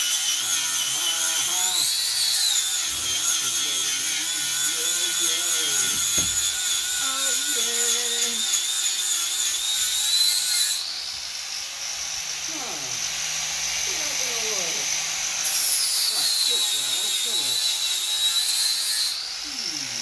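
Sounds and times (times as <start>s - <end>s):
angle grinder sanding steel: 0.0s - 20.0s.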